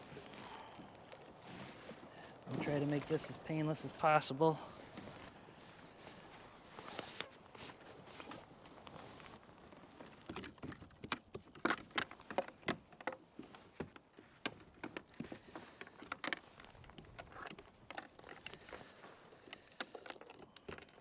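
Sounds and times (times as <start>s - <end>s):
clicks and rattles on kayak: 0.0s - 21.0s.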